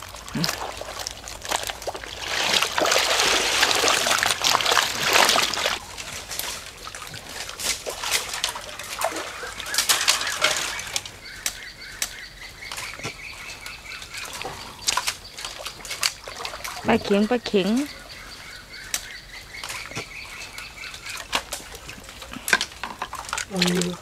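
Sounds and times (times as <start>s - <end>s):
splashing in shallow muddy water: 0.0s - 24.0s.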